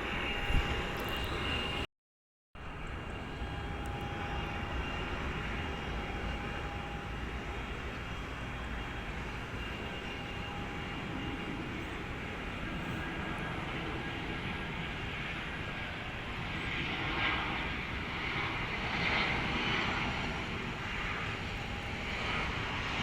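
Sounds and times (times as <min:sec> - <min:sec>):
faint jet engine whine: 0:00.0 - 0:01.9, 0:02.6 - 0:23.0
jet engines rumbling: 0:00.0 - 0:01.9, 0:02.6 - 0:23.0.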